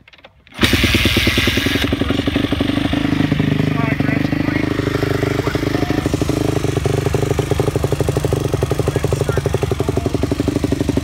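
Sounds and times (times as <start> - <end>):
motorcycle engine idling: 0.6 - 11.0.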